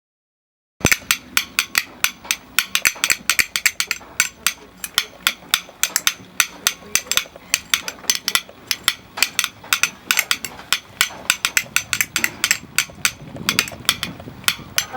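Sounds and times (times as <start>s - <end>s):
rapid sharp clicks: 0.8s - 14.9s.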